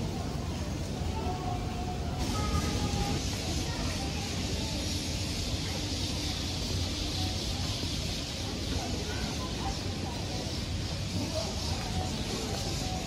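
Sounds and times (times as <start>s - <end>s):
low street rumble: 0.0s - 13.0s
even hiss: 1.0s - 13.0s.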